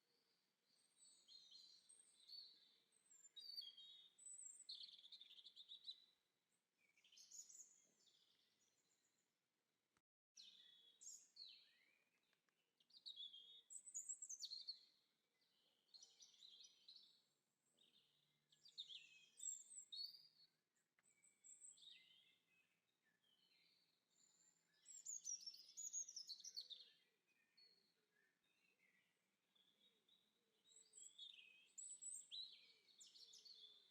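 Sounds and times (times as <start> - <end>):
songbird chirps and trills: 0.2 - 6.2, 10.4 - 33.9.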